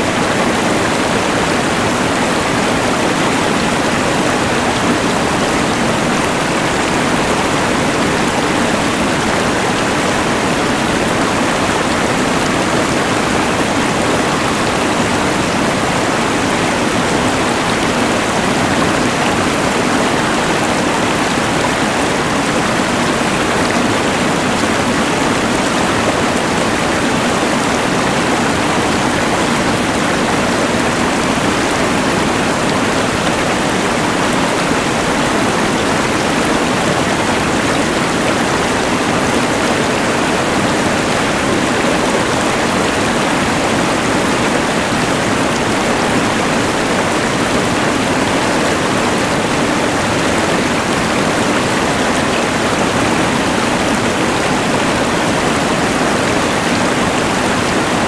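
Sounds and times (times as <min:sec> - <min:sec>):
rushing river water: 0:00.0 - 0:58.0.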